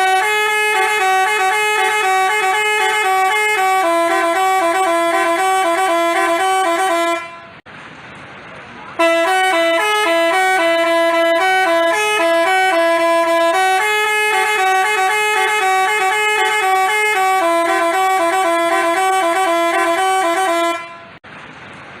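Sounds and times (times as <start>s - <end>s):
multi-tone bus horn melody: 0.0s - 7.6s, 9.0s - 21.2s.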